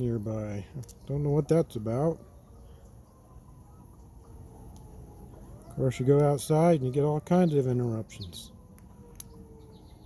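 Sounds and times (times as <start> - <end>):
distant fire engine siren: 0.0 - 10.0.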